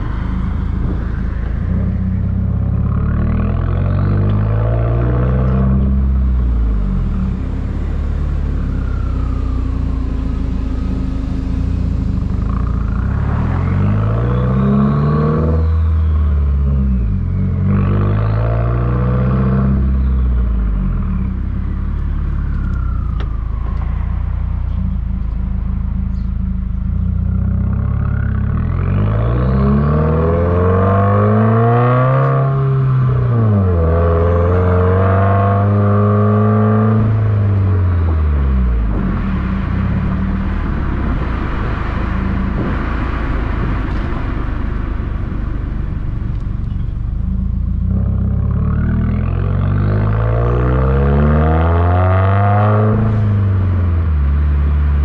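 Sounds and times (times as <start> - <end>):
car exhaust while accelerating: 0.0 - 55.0
high turbo whine: 0.0 - 55.0.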